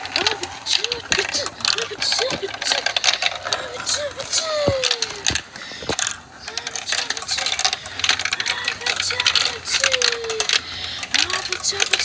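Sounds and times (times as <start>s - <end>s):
marbles clicking on a marble run: 0.0s - 12.0s.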